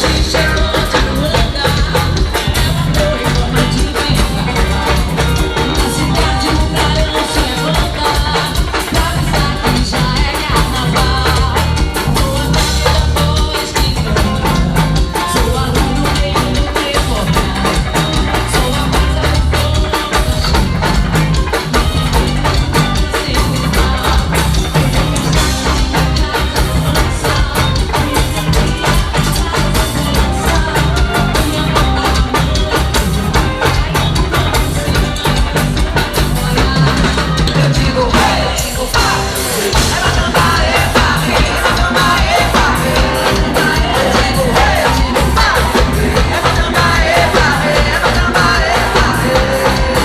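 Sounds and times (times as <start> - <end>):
live band with drums and percussion: 0.0 - 50.0.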